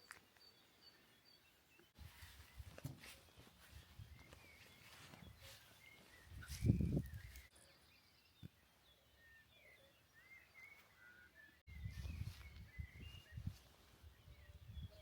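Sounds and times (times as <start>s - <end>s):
birds chirping and whistling: 0.4s - 15.0s.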